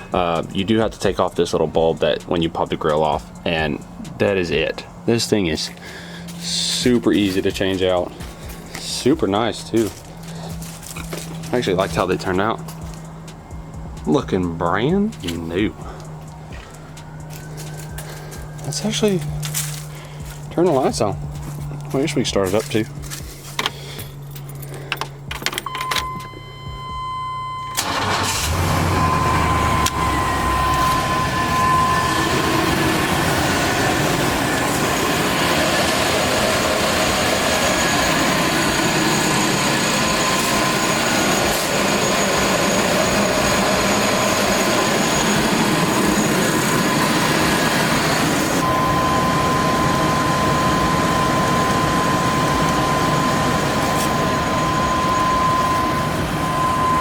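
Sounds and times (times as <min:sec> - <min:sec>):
steady high tone: 0:00.0 - 0:23.2, 0:25.6 - 0:57.0
truck engine cranking and running: 0:00.0 - 0:57.0.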